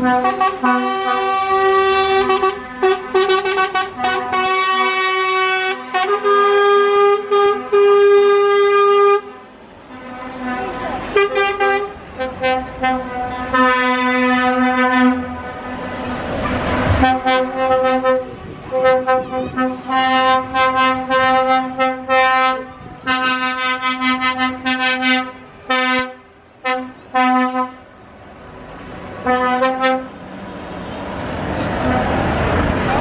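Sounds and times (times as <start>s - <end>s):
vehicle horn honking: 0.0s - 15.8s, 17.0s - 27.8s, 29.2s - 30.1s.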